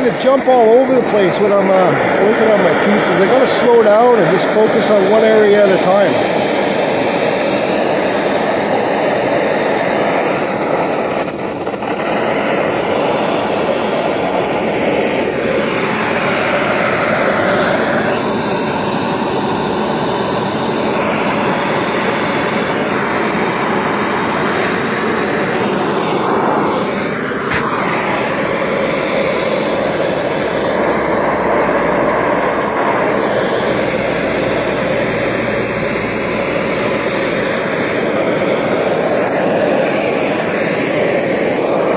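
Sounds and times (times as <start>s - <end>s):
propane torch hissing: 0.0s - 41.9s.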